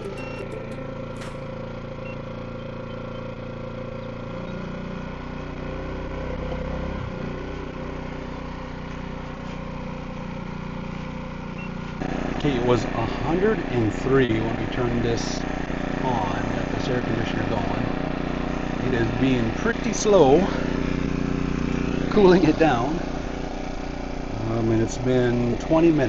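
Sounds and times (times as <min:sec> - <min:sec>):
portable generator running: 0:00.0 - 0:26.0.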